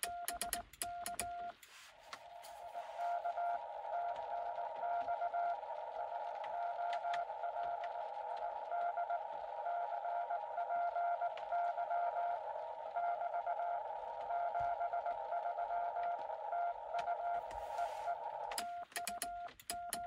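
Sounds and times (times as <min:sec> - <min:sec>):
morse code beeps: 0:00.0 - 0:01.6, 0:02.2 - 0:05.6, 0:08.6 - 0:20.0
receiver hiss: 0:00.0 - 0:20.0.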